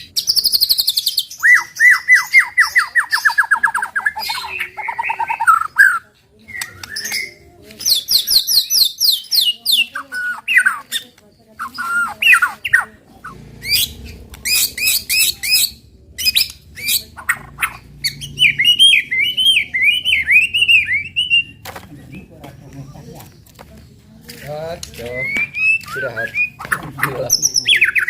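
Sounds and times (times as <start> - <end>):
songbird singing fast varied song: 0.0 - 21.6, 24.9 - 28.0.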